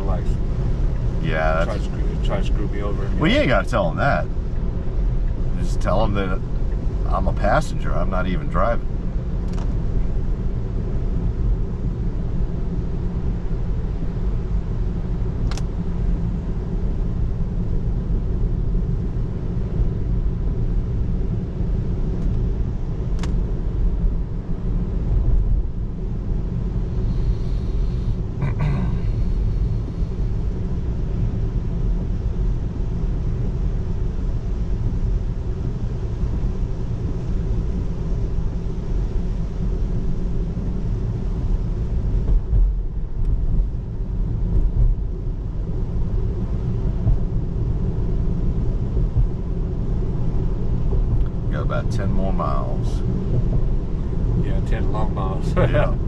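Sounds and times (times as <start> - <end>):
road and tyre rumble in car: 0.0 - 56.0.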